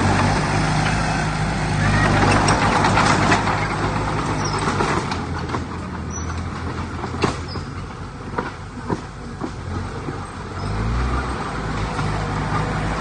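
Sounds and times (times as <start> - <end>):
diesel machinery engine: 0.0 - 13.0
rough grinding noise: 0.0 - 13.0.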